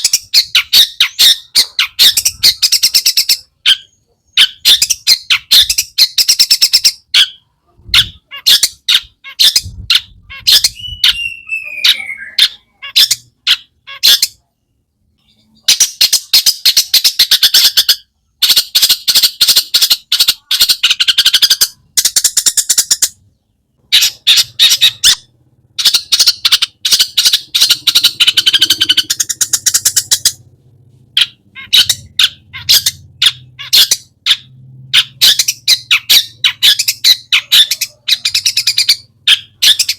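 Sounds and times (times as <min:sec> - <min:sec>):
bird harsh chattering song: 0:00.0 - 0:39.9.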